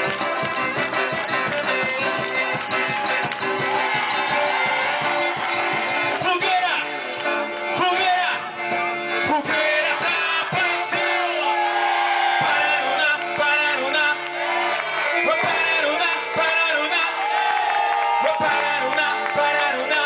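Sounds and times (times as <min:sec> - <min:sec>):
band music with singer: 0:00.0 - 0:20.0.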